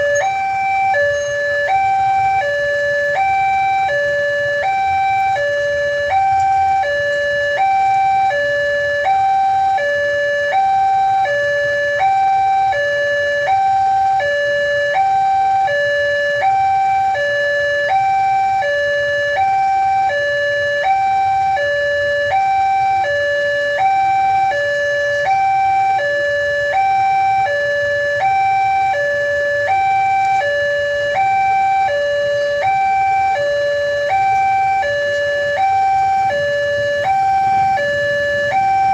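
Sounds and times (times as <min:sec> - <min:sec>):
level crossing two-tone alarm: 0:00.0 - 0:38.9.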